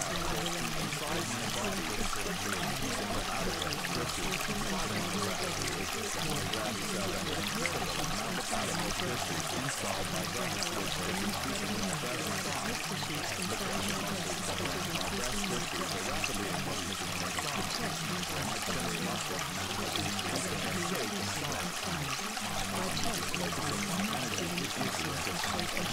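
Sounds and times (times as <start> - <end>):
faint murmur of voices: 0.0 - 25.9
water trickling like a stream: 0.0 - 25.9.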